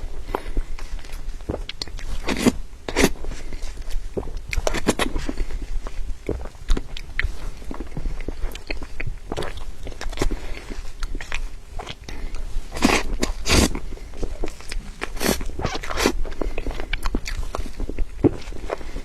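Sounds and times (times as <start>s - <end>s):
chewing soft cake: 0.0s - 19.0s.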